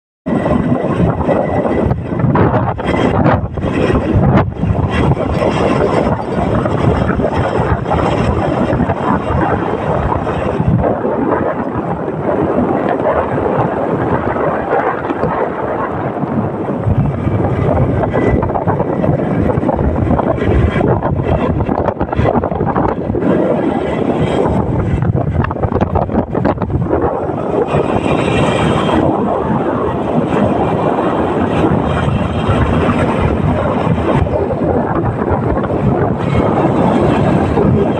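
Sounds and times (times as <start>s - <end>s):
motorcycle riding at speed: 0.2s - 37.9s
wind buffeting microphone: 0.2s - 37.9s.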